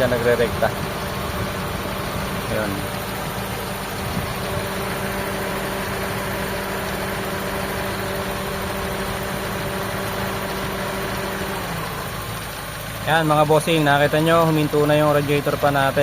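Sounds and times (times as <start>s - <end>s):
radiator fan humming: 0.0s - 14.6s
car engine idling: 0.0s - 16.0s.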